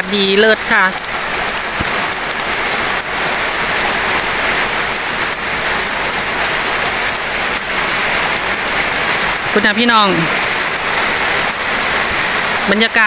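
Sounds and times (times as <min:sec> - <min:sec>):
rain on leafy plants: 0:00.0 - 0:13.0.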